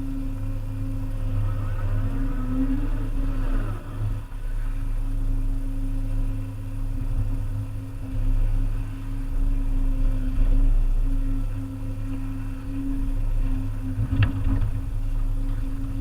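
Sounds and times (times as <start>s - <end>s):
excavator diesel engine drone: 0.0s - 16.0s
wavering high whine: 0.0s - 16.0s.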